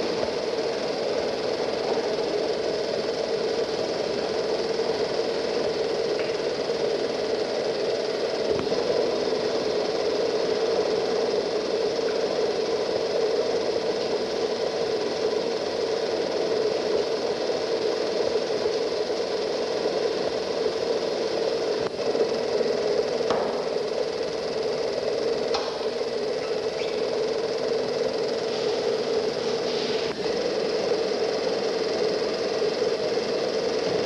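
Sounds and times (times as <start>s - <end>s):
steam engine mechanical din: 0.0s - 34.0s.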